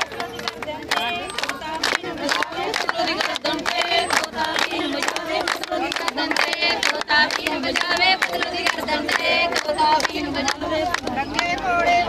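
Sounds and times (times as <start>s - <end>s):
brisk hand-clapping: 0.0s - 11.7s
women singing folk songs: 0.0s - 12.0s.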